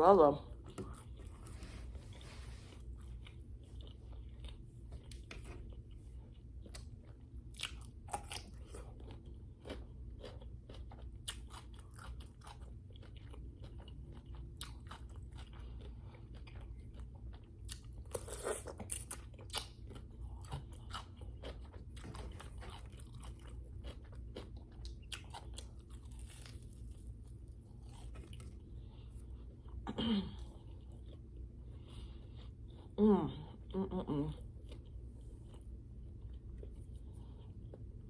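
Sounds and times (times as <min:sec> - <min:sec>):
person chewing and crunching food: 0:00.4 - 0:38.0.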